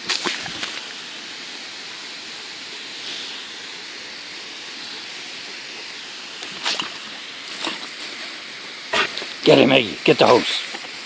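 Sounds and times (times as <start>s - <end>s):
hose nozzle spray hissing: 0.0s - 11.0s.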